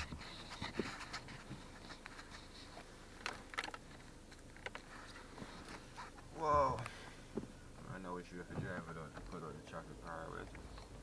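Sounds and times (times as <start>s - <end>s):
car interior hum while driving: 0.0s - 11.0s.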